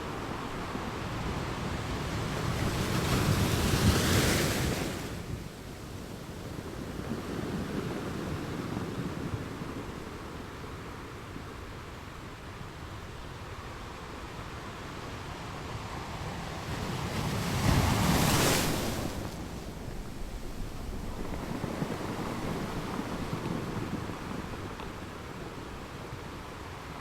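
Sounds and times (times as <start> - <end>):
ocean waves on a beach: 0.0 - 27.0.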